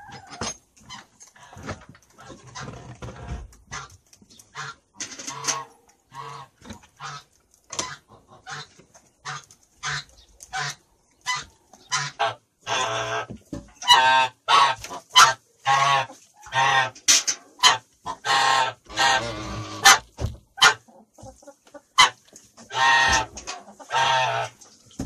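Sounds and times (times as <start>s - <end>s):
poultry calling: 0.0s - 24.8s.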